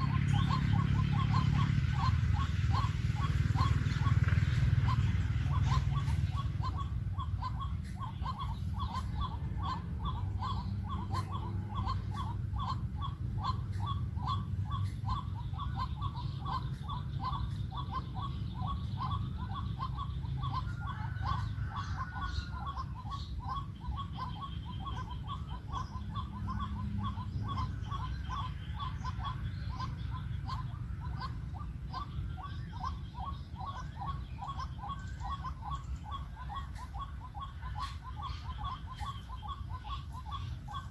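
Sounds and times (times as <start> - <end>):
steady low rumble: 0.0 - 40.9
waterhen calling: 0.0 - 40.9.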